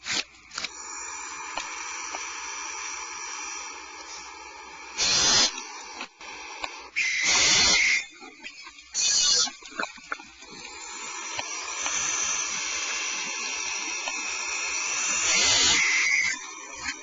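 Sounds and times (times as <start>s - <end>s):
owl nestlings hissing: 0.0s - 17.0s.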